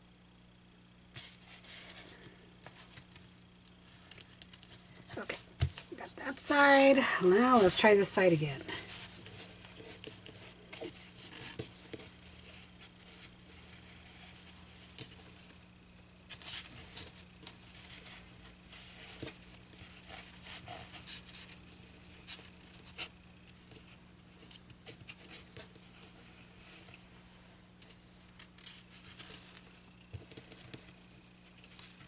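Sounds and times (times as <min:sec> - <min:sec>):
steady low hum: 0:00.0 - 0:32.0
small clicks and scratches: 0:01.1 - 0:06.7, 0:08.7 - 0:32.0.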